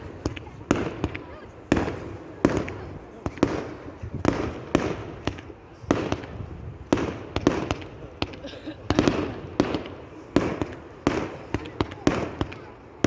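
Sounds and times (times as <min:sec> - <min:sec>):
fireworks banging with echo: 0:00.0 - 0:13.0
fireworks crackling: 0:00.0 - 0:13.0.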